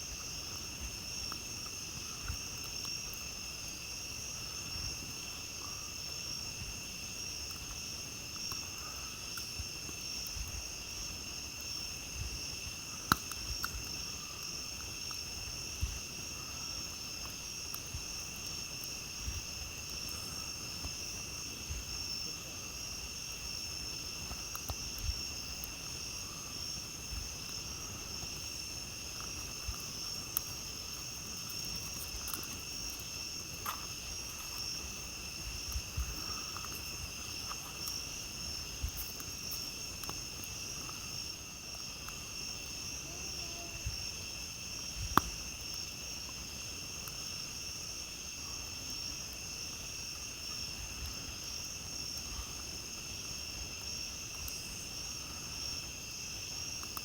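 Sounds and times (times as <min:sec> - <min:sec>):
campfire crackles and pops: 0:00.0 - 0:57.0
night insects trilling: 0:00.0 - 0:57.0.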